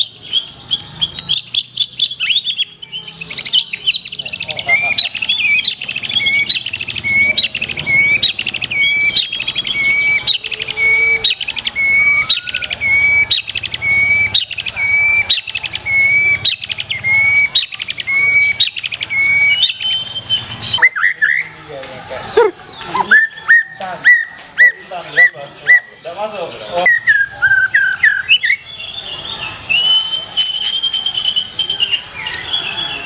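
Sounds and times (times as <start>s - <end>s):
bird singing whistled phrases: 0.0s - 21.7s, 23.0s - 33.0s.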